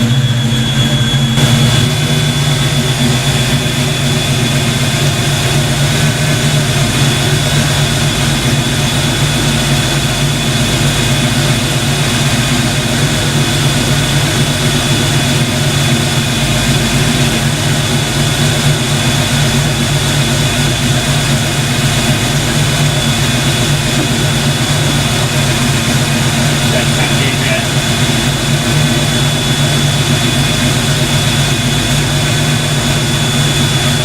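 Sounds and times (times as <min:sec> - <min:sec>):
mechanical drone with high whine: 0:00.0 - 0:34.0.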